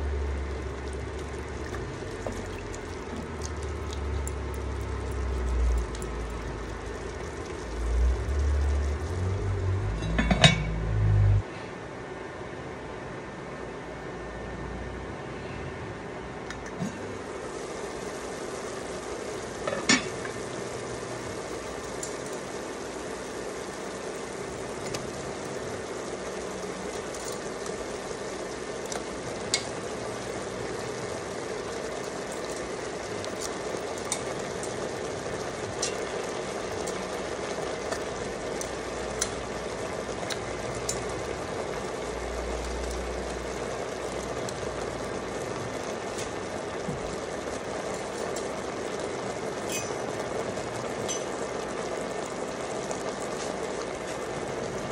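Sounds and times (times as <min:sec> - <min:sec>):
broth simmering and bubbling: 0:00.0 - 0:11.5, 0:16.5 - 0:54.9.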